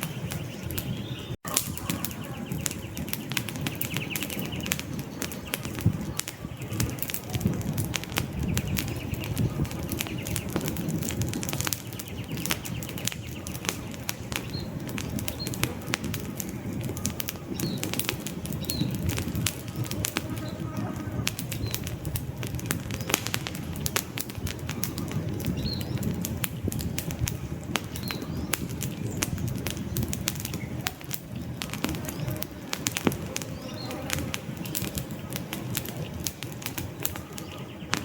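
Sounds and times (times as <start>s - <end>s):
campfire crackling and popping: 0.0s - 38.0s
low rush of flame: 0.0s - 38.0s.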